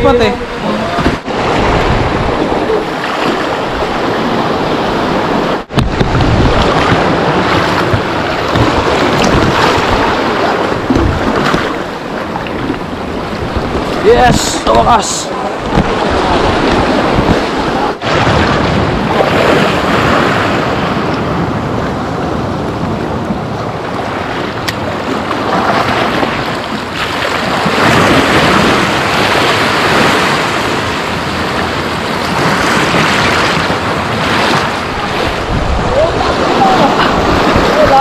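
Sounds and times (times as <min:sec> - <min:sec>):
sea waves washing over rocks: 0:00.0 - 0:38.0
wind on microphone: 0:00.0 - 0:38.0.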